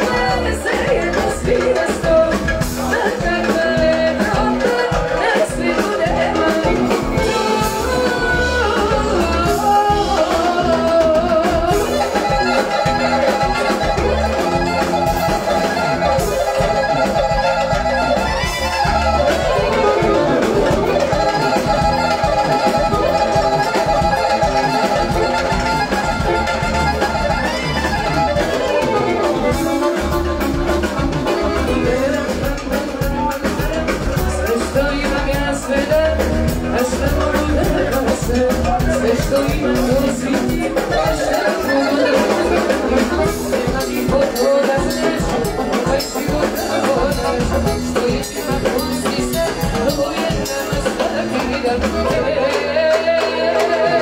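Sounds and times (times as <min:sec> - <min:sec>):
woman singing into a microphone: 0:00.0 - 0:29.9, 0:30.6 - 0:54.0
live band playing: 0:00.0 - 0:54.0.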